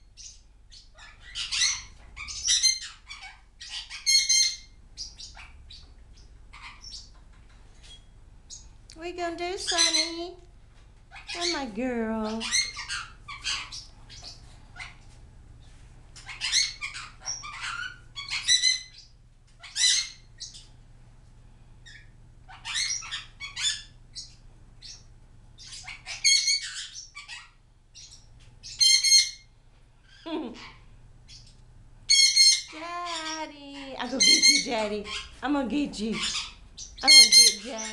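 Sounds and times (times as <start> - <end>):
parrots chirping and squawking: 0.0 - 8.8, 9.6 - 10.4, 11.0 - 15.2, 16.1 - 20.8, 21.8 - 37.9.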